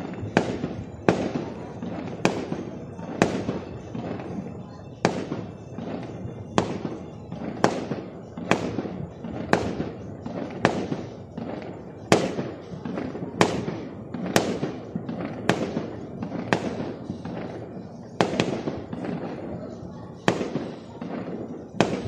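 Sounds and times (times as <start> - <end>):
fireworks banging: 0.0 - 22.0.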